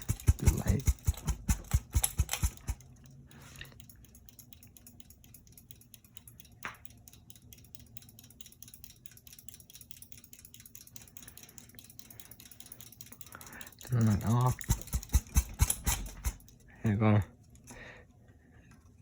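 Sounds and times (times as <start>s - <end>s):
ceiling fan motor hum: 0.0s - 19.0s.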